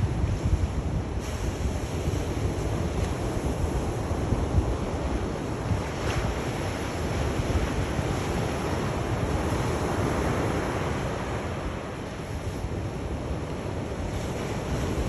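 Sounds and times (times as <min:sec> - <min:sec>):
sea waves on the shore: 0:00.0 - 0:15.0
wind noise on microphone: 0:00.0 - 0:15.0.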